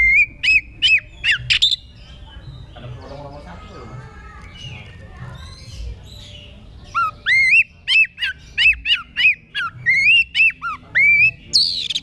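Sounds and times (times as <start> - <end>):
bird whistling song: 0.0 - 2.8, 4.6 - 12.0
faint bird chirps: 0.0 - 12.0.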